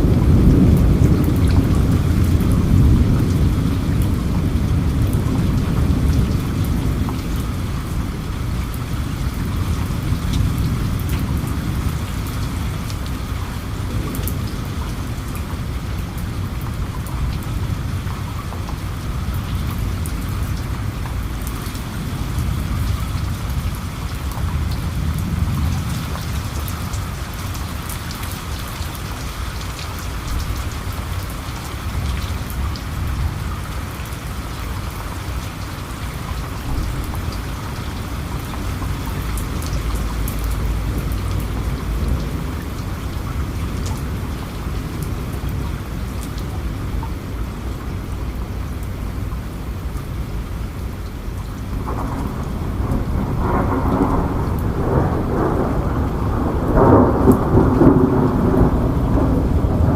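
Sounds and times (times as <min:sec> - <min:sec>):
rain falling: 0:00.0 - 0:59.9
raindrops ticking: 0:00.0 - 0:59.9.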